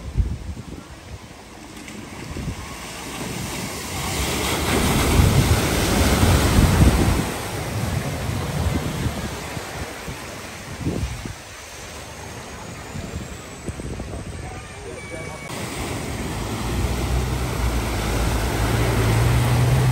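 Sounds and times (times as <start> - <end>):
car splashing through floodwater: 0.0 - 19.9.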